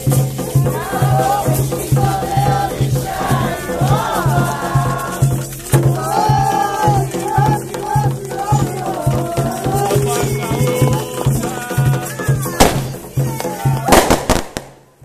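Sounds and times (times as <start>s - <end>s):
rattle shaking: 0.0s - 13.9s
voices singing a chant: 0.0s - 14.4s
hand-drum beat: 0.0s - 14.7s.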